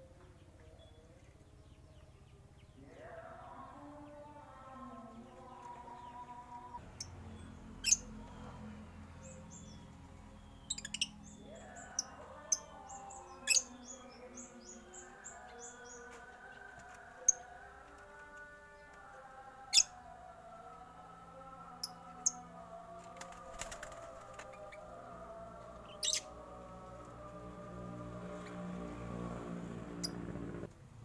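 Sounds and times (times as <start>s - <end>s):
birds chirping: 0.0s - 20.4s, 21.4s - 30.7s.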